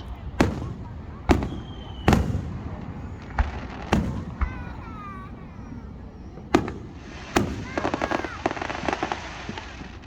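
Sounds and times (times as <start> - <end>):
falling firework whistle: 0.0 - 10.0
firework bangs with rumbles: 0.0 - 10.0.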